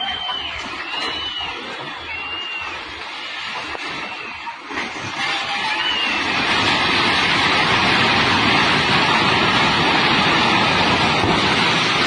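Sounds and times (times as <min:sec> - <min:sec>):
river rushing roar: 0:00.0 - 0:12.0.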